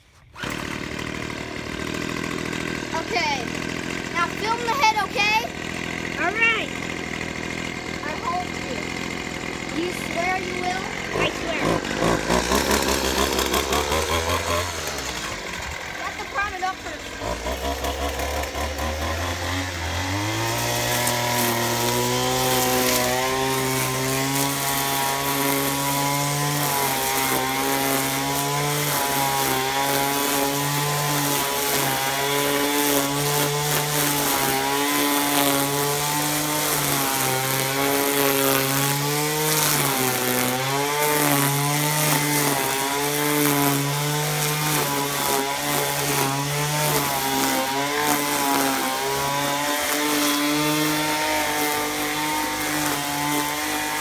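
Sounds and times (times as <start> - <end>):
line cutting grass: 0.0 - 54.0
string trimmer engine revving: 0.2 - 54.0.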